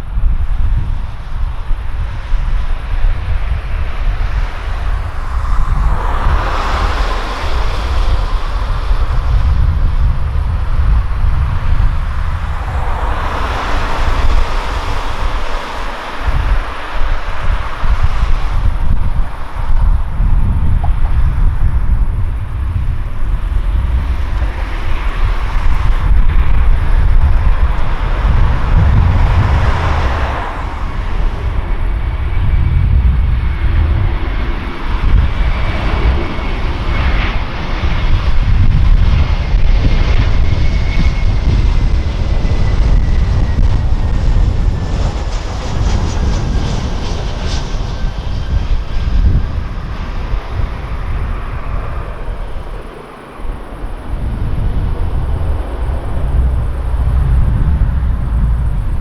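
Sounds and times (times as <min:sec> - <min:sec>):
jet airliner roar: 0:00.0 - 0:59.0
jet engine whine: 0:00.0 - 0:59.0.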